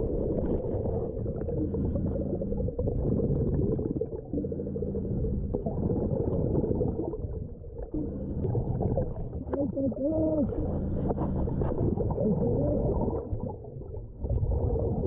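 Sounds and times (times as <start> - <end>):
faint low hum: 0.0 - 15.0
muffled underwater creek rush: 0.0 - 15.0.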